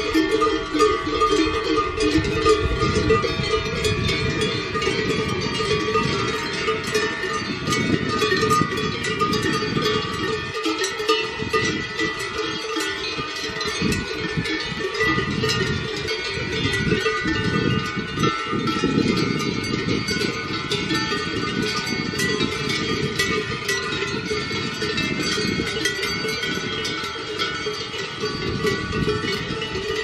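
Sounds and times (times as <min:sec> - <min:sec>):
cowbells ringing: 0:00.0 - 0:30.0.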